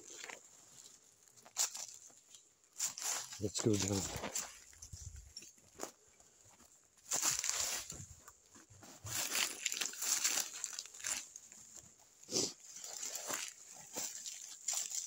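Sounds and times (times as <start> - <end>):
footsteps crunching through dry brush: 0.0 - 15.0.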